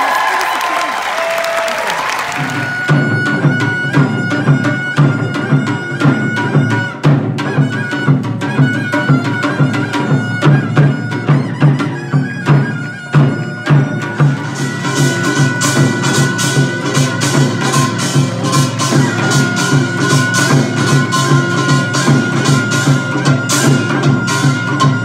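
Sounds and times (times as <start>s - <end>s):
drums beating: 0.0s - 25.0s
double-reed shawm melody: 2.3s - 25.0s.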